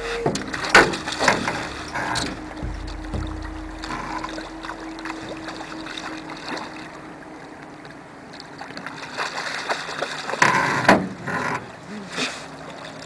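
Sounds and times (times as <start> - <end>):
fish thrashing and splashing: 0.0 - 10.8.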